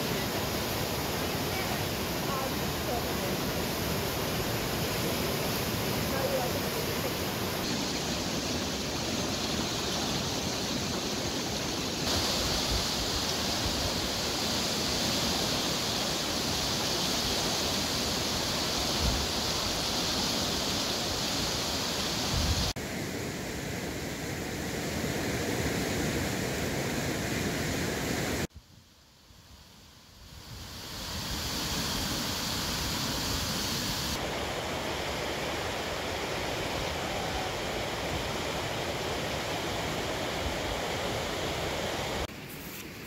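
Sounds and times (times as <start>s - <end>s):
river rushing over rapids: 0.0s - 23.9s, 30.8s - 42.4s.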